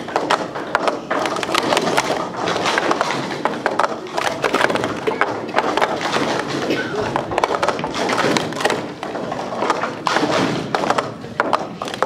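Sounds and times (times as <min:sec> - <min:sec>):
plastic cups clattering: 0:00.0 - 0:12.0.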